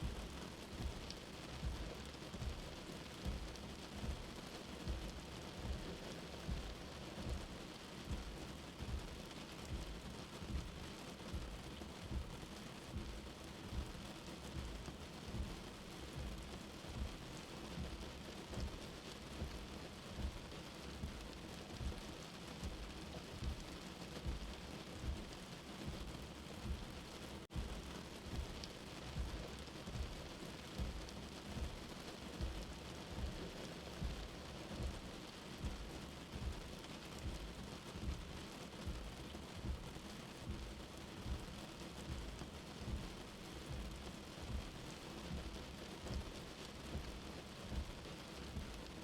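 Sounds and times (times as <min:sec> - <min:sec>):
low heartbeat thump: 0:00.0 - 0:22.0, 0:22.6 - 0:48.9
rain hiss: 0:00.0 - 0:49.0.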